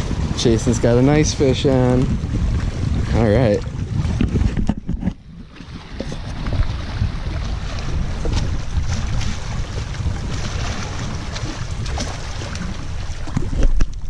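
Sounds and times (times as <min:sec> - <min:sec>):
waves lapping against rocks: 0:00.0 - 0:14.0
wind buffeting microphone: 0:00.0 - 0:14.0.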